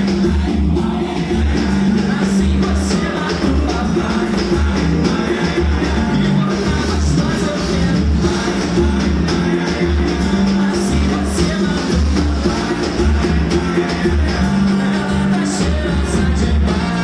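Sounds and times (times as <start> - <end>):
band playing a song: 0.0 - 17.0
pulsing bass line: 0.0 - 17.0.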